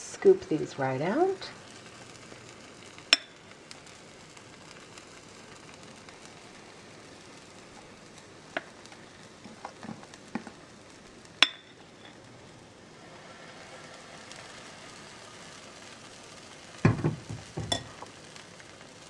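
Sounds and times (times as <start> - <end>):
batter sizzling on a griddle: 0.0 - 19.0.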